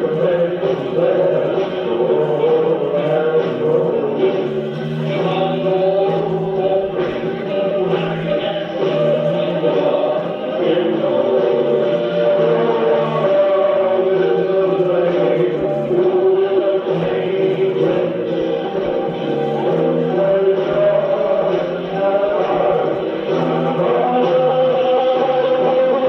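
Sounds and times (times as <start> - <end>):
voices singing long notes: 0.0 - 26.0.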